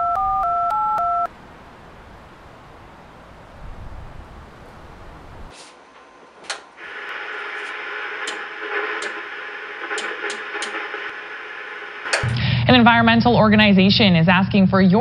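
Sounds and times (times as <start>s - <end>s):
television static hiss: 1.0s - 13.7s.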